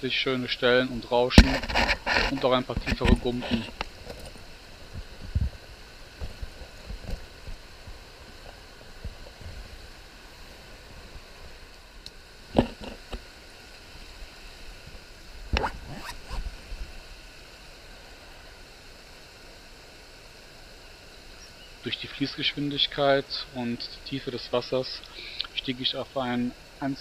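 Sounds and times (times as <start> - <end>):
river riffle rushing: 0.0 - 27.0.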